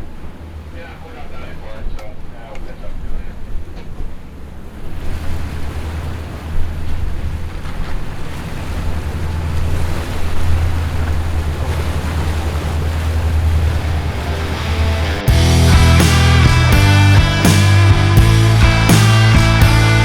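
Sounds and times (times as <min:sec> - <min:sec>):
boat engine drone: 0:00.0 - 0:20.0
wind and water rushing: 0:00.0 - 0:20.0.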